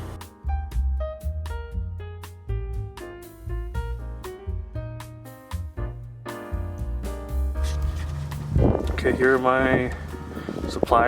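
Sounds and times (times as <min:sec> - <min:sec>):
bass beat: 0:00.0 - 0:11.0.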